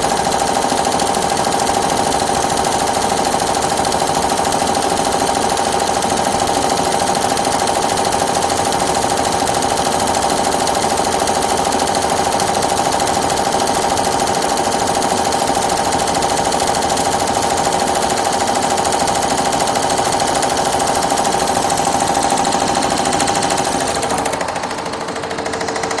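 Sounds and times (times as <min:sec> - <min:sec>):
embroidery machine stitching: 0:00.0 - 0:26.0.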